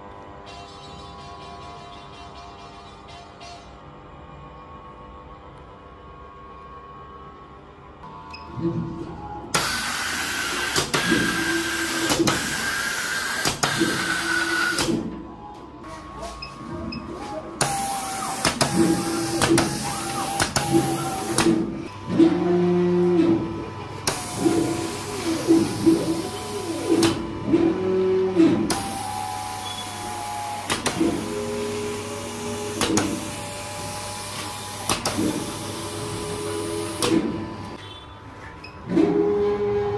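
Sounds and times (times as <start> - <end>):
machine drive motors whining: 0.0 - 39.9.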